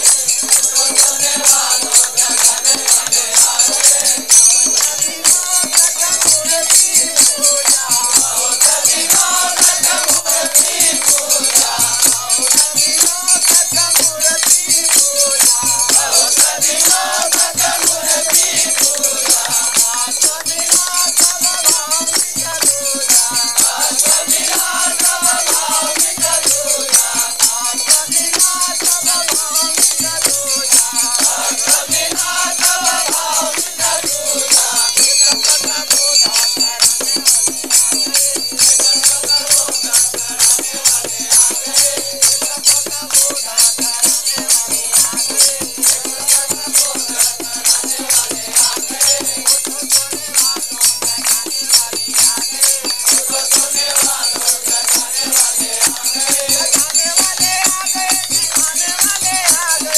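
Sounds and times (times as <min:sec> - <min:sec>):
jingling hand percussion: 0:00.0 - 0:59.9
person singing devotional song: 0:00.0 - 0:59.9.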